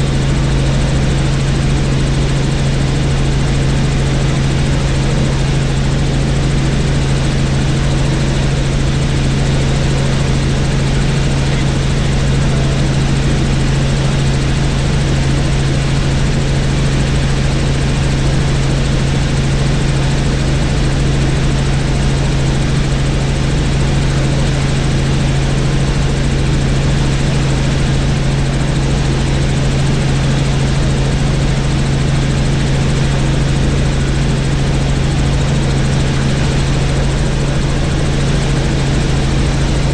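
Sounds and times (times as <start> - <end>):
helicopter in flight: 0.0 - 39.9.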